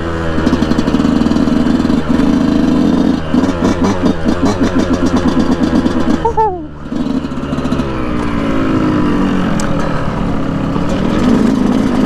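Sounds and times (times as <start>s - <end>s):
two-stroke dirt bike engine: 0.0s - 12.0s.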